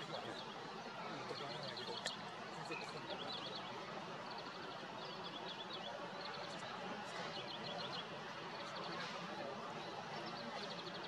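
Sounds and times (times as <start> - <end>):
songbirds twittering: 0.0 - 9.2
low background murmur: 0.0 - 11.0.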